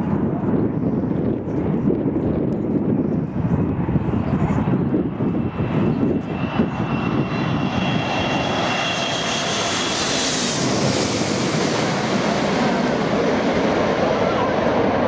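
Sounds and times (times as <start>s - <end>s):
airliner engine noise: 0.0s - 15.0s
wind buffeting microphone: 0.0s - 15.0s.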